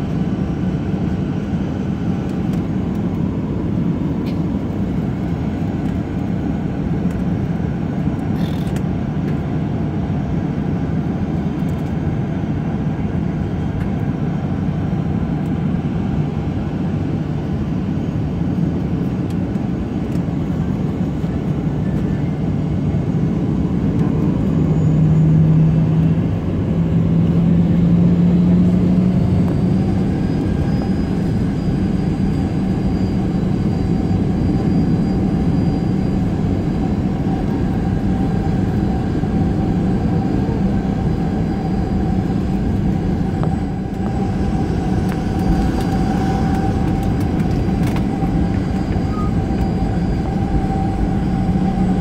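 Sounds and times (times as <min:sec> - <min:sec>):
jet engines idling: 0:00.0 - 0:52.0.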